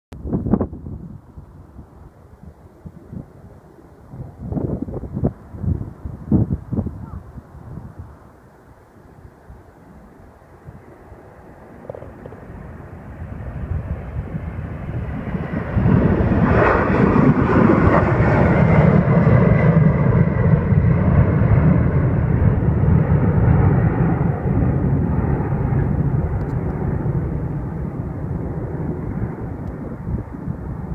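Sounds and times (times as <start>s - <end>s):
jet engines rumbling: 0.2s - 30.9s.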